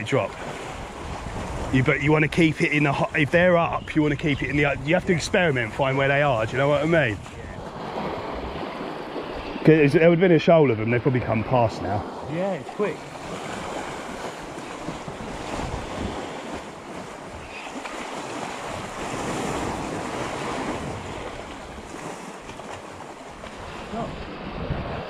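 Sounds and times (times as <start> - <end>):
wind buffeting microphone: 0.0 - 9.9, 11.8 - 25.0
sea waves washing against rocks: 0.0 - 10.0, 11.8 - 25.0.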